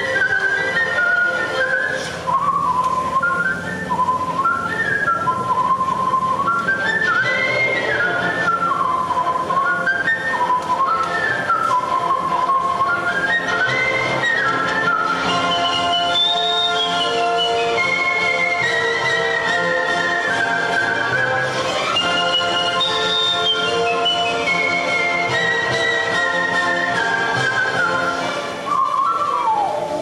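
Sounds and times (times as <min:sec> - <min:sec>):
instrumental backing music: 0:00.0 - 0:30.0
man whistling a melody: 0:00.0 - 0:30.0.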